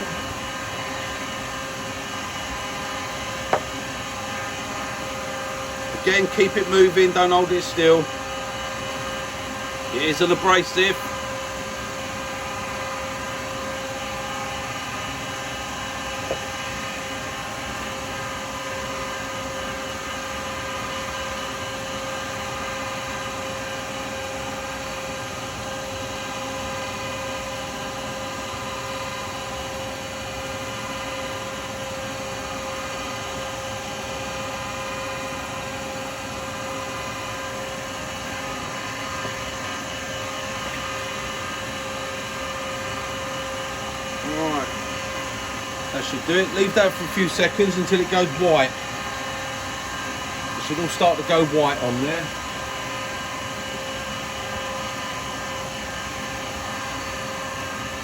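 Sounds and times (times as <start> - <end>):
lathe motor hum and whine: 0.0 - 58.0.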